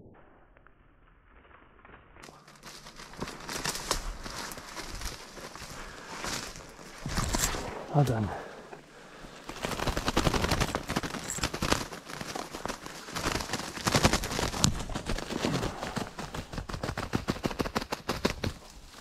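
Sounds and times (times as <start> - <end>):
crackling and thrashing in brush: 2.1 - 19.0.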